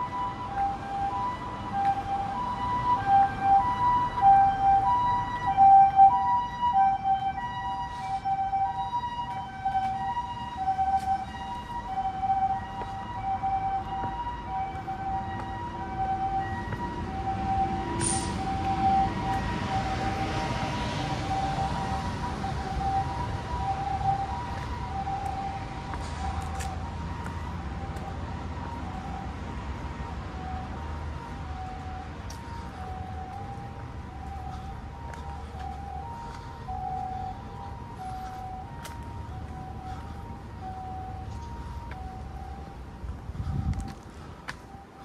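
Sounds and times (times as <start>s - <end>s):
two-tone emergency siren: 0.0s - 45.0s.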